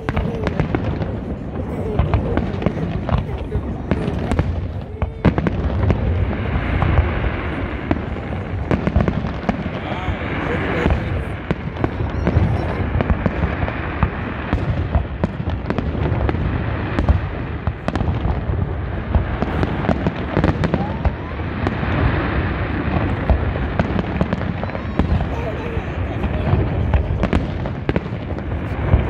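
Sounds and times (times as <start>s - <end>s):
fireworks bangs and cracks: 0.0s - 29.0s.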